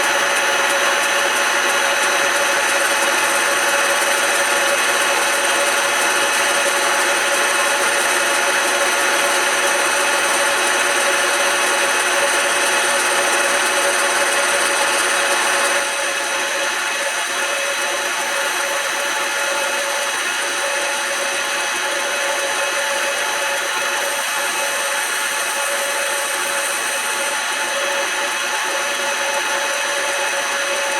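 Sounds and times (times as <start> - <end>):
lathe whining: 0.0 - 30.9.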